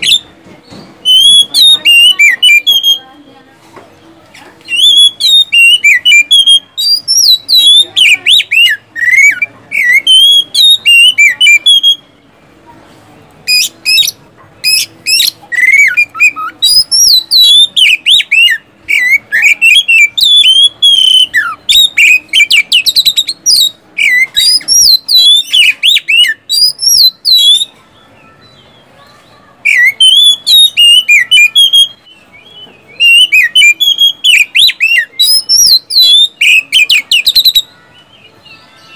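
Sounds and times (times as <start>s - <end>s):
magpie-robin singing: 0.0s - 12.4s, 13.4s - 38.9s.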